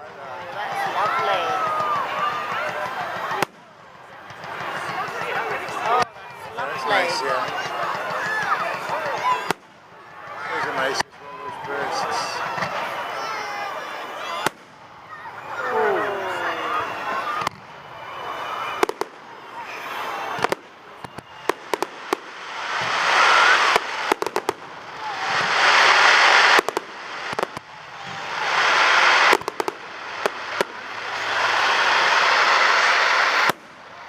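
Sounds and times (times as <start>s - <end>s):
fireworks bangs and crackles: 0.0s - 34.0s
fireworks hissing: 0.1s - 34.0s.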